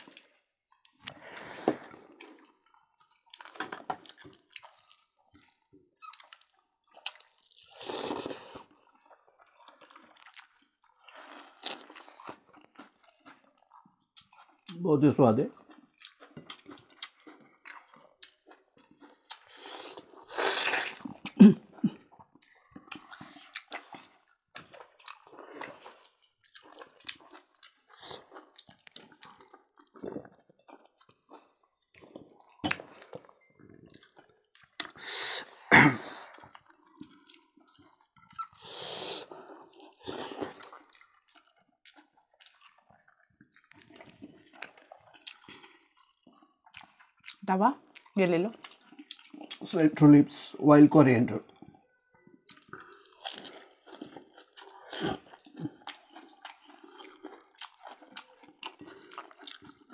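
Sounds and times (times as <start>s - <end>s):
wet chewing and lip-smacking: 1.9s - 14.8s, 15.6s - 35.6s, 36.3s - 49.9s, 51.5s - 59.9s.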